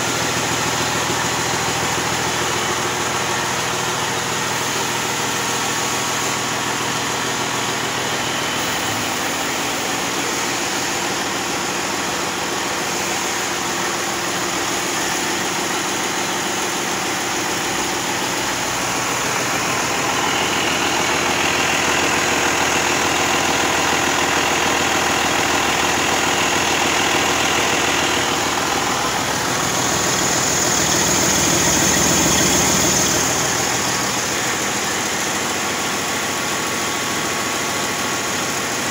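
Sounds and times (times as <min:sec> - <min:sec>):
diesel engine idling: 0:00.0 - 0:38.9
high-pitched turbocharger whine: 0:00.0 - 0:38.9.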